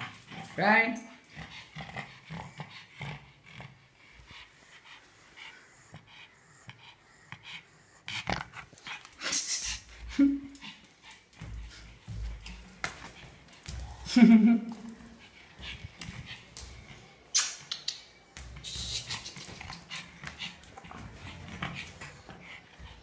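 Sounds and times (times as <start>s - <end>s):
dog panting: 0.0s - 17.3s, 18.4s - 23.0s.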